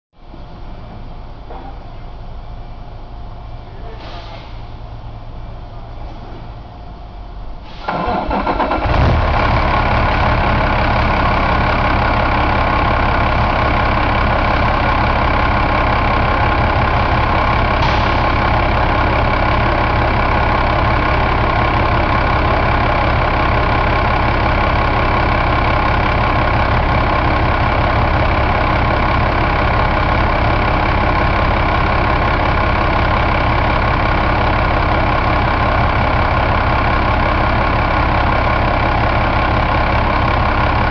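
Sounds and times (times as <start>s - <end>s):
diesel engine idling: 0.2s - 40.9s
diesel engine cranking: 7.6s - 40.9s.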